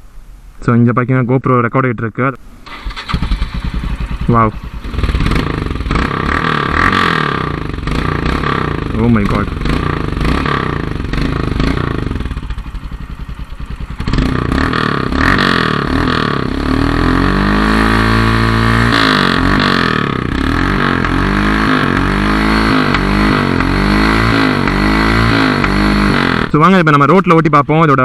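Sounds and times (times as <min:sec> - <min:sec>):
motorcycle engine idling and revving: 0:02.7 - 0:26.7.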